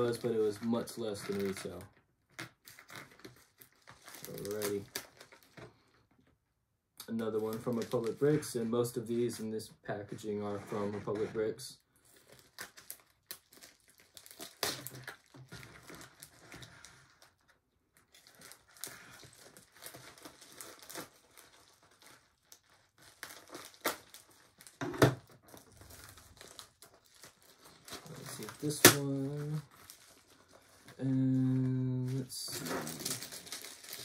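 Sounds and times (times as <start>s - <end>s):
plastic mailer crinkling and tearing: 0.0s - 6.0s, 7.1s - 9.4s, 10.2s - 34.0s.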